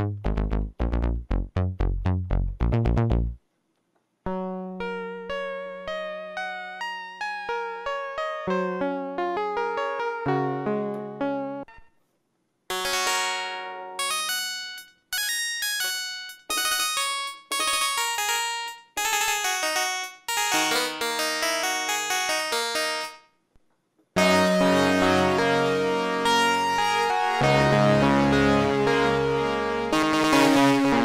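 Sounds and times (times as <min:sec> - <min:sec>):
synthesizer harpsichord chords: 0:04.3 - 0:11.8, 0:12.7 - 0:23.3, 0:24.2 - 0:31.0.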